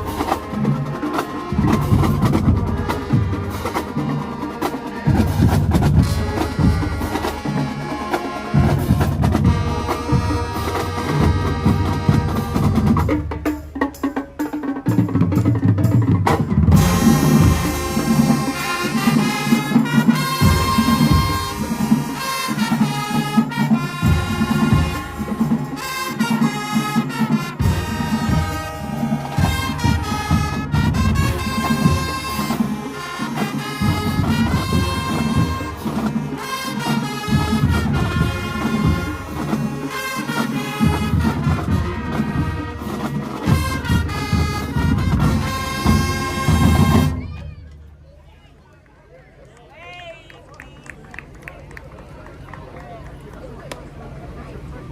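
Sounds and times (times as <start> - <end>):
brass section playing: 0.0 - 47.4
drumline beats: 0.0 - 48.6.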